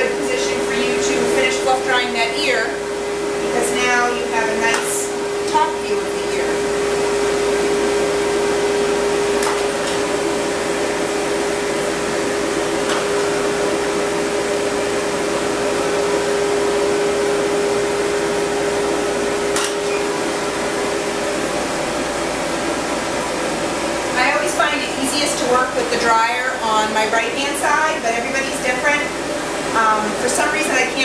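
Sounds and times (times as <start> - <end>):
pet dryer blowing air: 0.0 - 27.3, 28.0 - 31.0.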